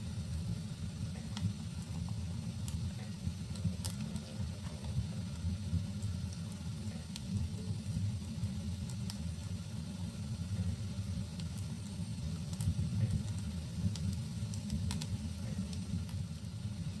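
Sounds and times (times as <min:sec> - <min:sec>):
burning wood crackling and popping: 0:00.0 - 0:17.0
low rumble of flames: 0:00.0 - 0:17.0.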